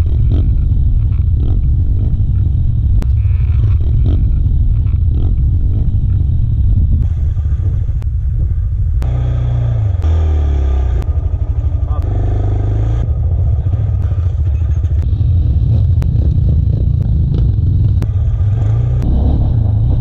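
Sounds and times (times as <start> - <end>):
motorbike engines rumbling: 0.0 - 20.0.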